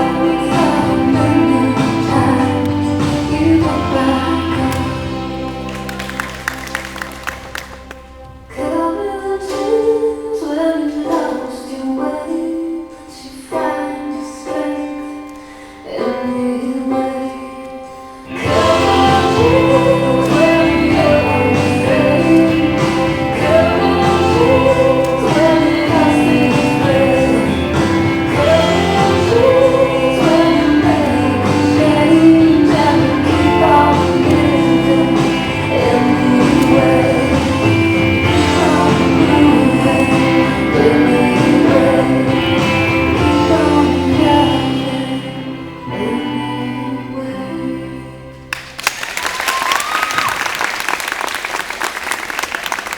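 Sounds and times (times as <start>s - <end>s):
music with singing: 0.0s - 50.3s.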